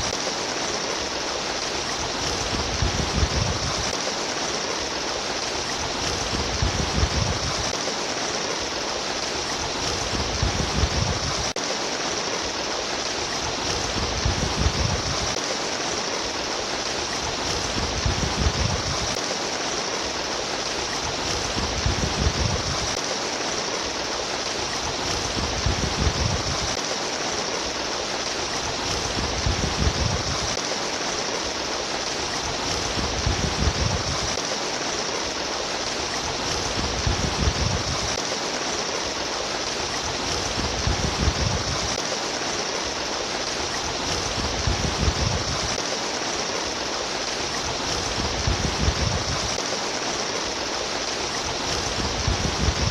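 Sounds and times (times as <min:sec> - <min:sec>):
babbling stream: 0:00.0 - 0:52.9.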